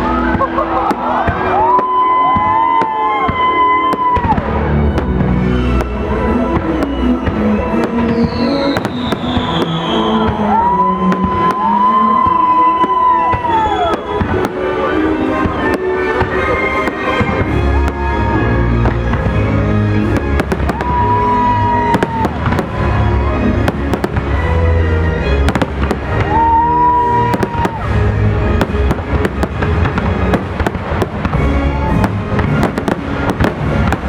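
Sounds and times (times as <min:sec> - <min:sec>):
fireworks bangs and cracks: 0:00.0 - 0:34.0
music with long held notes: 0:00.0 - 0:34.0.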